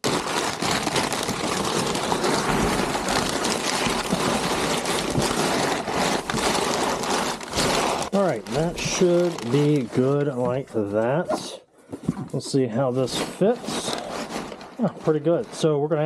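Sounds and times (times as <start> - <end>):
packing paper crinkling: 0.0 - 11.2, 12.8 - 16.0.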